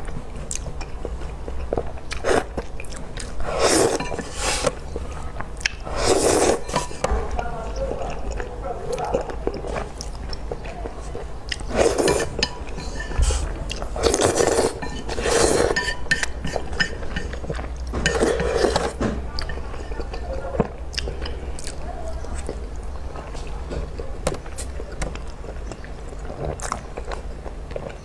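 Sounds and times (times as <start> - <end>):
person chewing noodles: 0.0 - 28.0.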